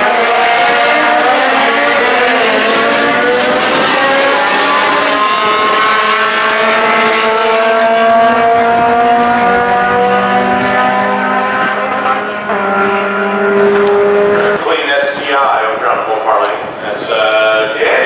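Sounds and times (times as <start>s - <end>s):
car engines at full throttle: 0.0s - 18.0s.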